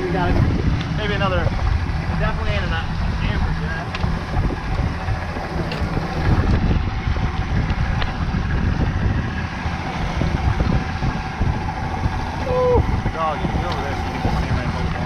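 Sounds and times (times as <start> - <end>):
boat wake churning: 0.0 - 15.0
outboard motor running: 0.0 - 15.0
wind buffeting microphone: 0.0 - 15.0.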